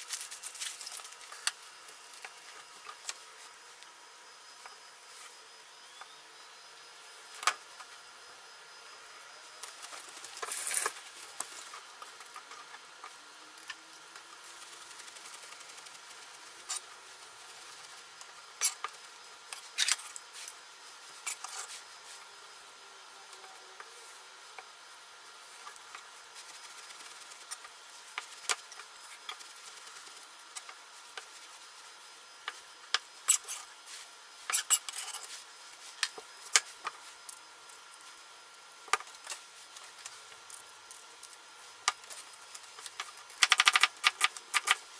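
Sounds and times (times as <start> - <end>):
faint steady hiss: 0.0 - 44.9.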